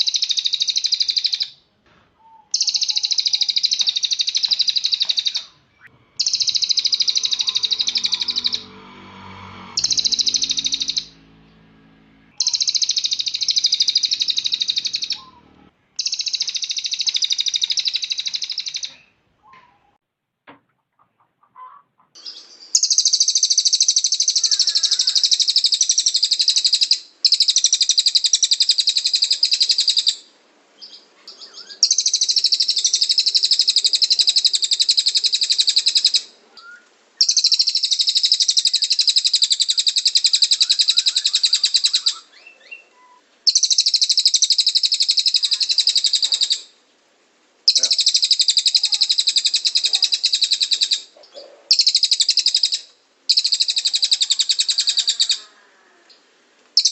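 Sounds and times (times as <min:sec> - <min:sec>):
songbird trilling: 0:00.0 - 0:01.6, 0:02.2 - 0:09.0, 0:09.7 - 0:11.4, 0:12.4 - 0:19.8, 0:21.6 - 0:46.8, 0:47.7 - 0:56.2.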